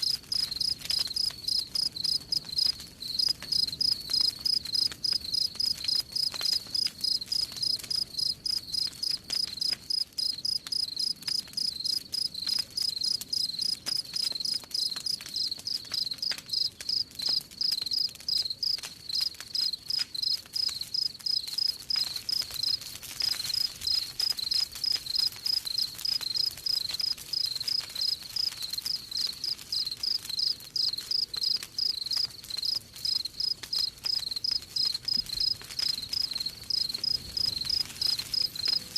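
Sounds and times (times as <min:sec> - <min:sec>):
cricket chirping: 0:00.0 - 0:22.5, 0:23.6 - 0:38.8
campfire crackling: 0:00.0 - 0:38.9.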